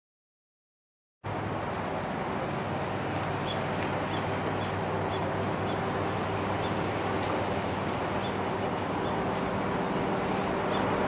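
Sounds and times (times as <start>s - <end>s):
distant train locomotive hum: 1.3s - 11.0s.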